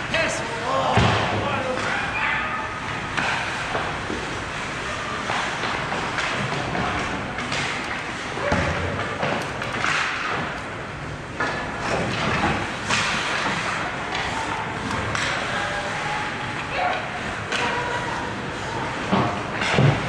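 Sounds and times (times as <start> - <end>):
hockey sticks and puck knocking: 2.8 - 20.0.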